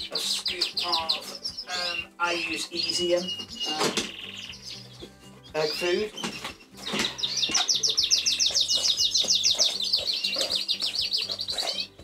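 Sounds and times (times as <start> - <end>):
canary singing rapid trill: 0.0 - 12.0
other canaries chirping: 0.0 - 12.0.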